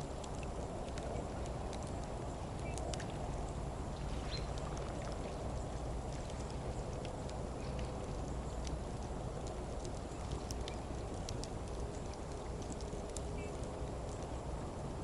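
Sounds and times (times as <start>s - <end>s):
faint clicks: 0.1s - 3.3s, 4.4s - 14.4s.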